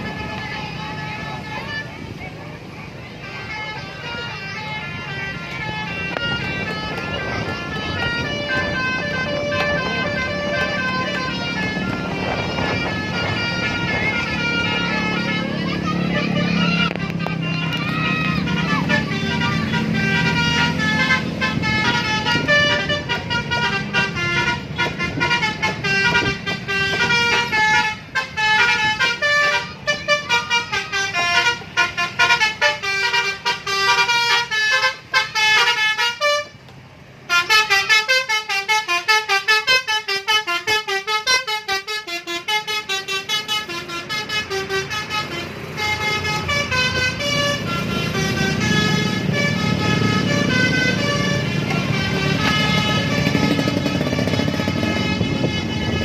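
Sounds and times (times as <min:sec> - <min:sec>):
multi-tone musical air horn: 0:00.0 - 0:36.6, 0:37.2 - 0:56.0
low engine rumble: 0:00.0 - 0:56.0.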